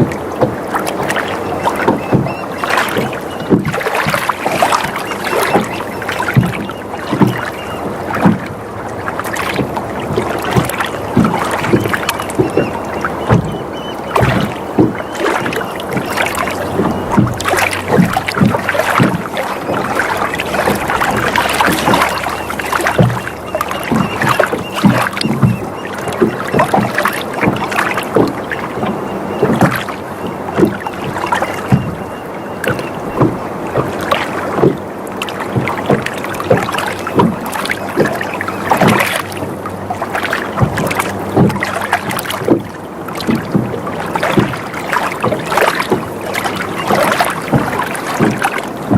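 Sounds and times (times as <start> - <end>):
water lapping against hull: 0.0 - 48.9.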